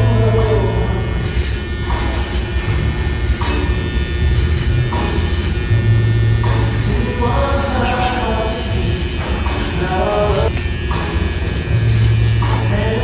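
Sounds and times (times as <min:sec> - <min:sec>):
background music: 0:00.0 - 0:13.0
electric hair clippers buzzing: 0:00.0 - 0:13.0.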